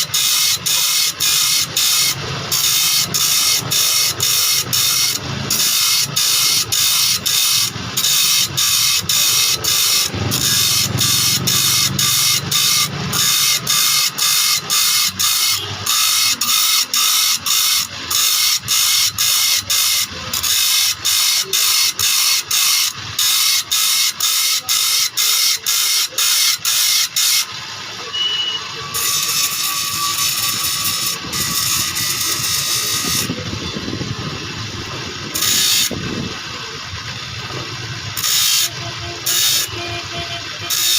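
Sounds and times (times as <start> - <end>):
hand file rasping on saw teeth: 0.0 - 27.5, 28.9 - 33.3, 35.4 - 35.9, 38.2 - 39.7, 40.7 - 40.9.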